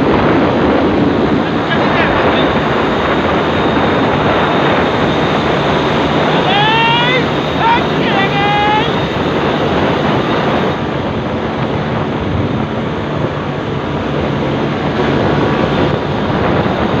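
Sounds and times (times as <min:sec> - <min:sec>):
loud rushing noise: 0:00.0 - 0:17.0.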